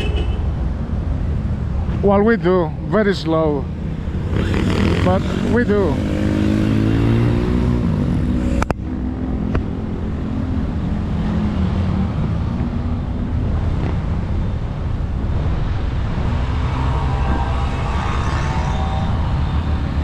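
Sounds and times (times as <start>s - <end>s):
vehicle engine humming: 3.6s - 20.0s.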